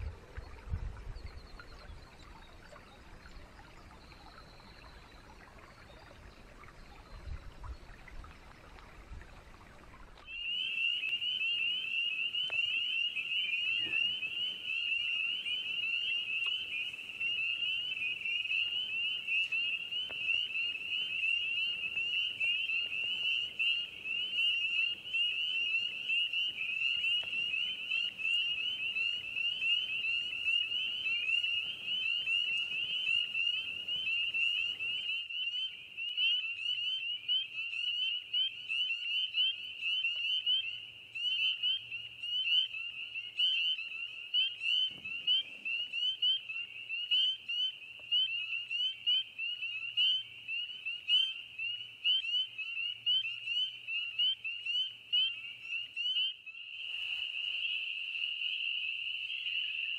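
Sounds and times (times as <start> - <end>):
frogs peeping chorus: 0.0 - 59.9.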